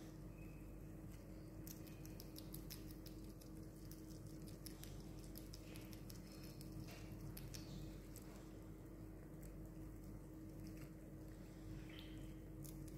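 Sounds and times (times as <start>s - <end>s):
steady low hum: 0.0s - 12.9s
small animal chewing with crunchy clicks: 1.1s - 12.9s.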